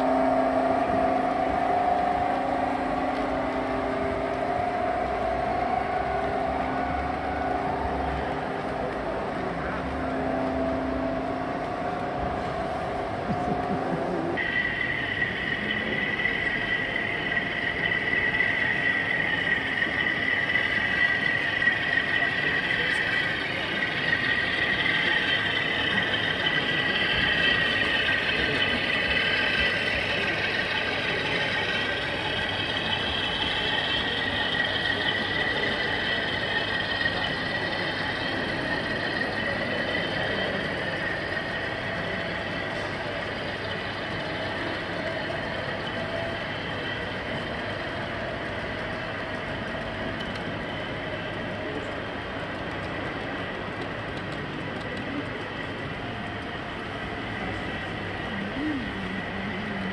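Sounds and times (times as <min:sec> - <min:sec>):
model train droning with whine: 0:00.0 - 0:59.9.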